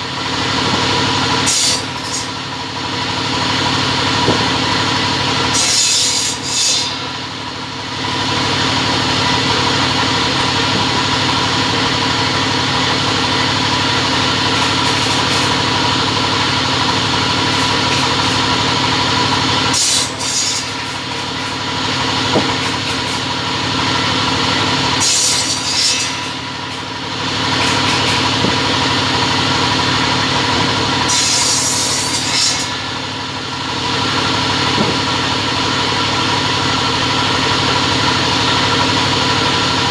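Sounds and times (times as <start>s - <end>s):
cutting machine humming: 0.0s - 39.9s.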